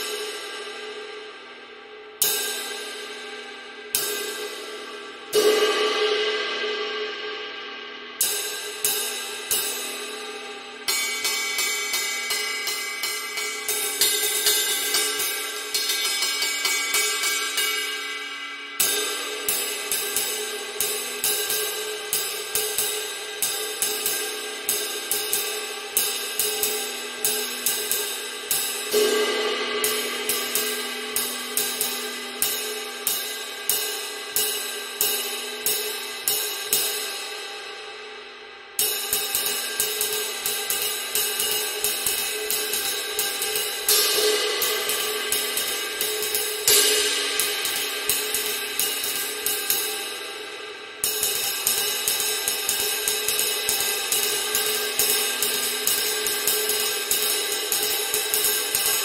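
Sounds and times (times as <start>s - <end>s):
ride cymbal strokes ringing: 2.3s - 59.0s.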